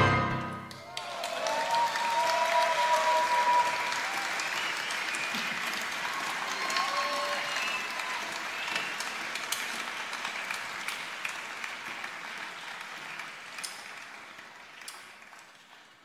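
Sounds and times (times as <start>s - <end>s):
audience applause: 0.7s - 16.0s.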